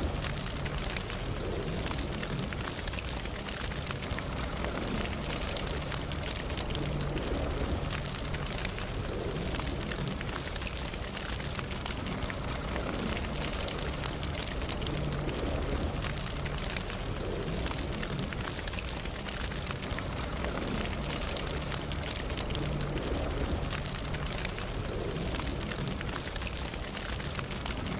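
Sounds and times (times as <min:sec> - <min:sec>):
crackles and pops of burning wood: 0:00.0 - 0:27.9
roar of campfire flames: 0:00.0 - 0:27.9.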